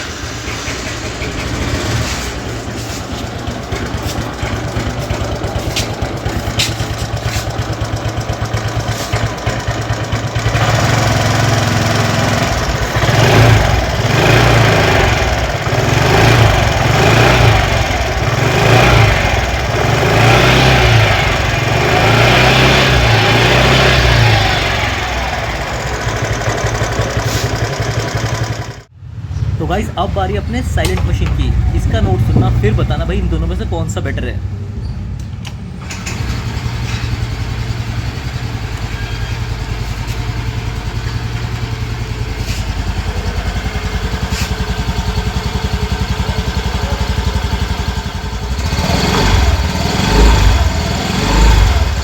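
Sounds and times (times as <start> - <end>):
scooter engine idling and revving: 0.0 - 52.0.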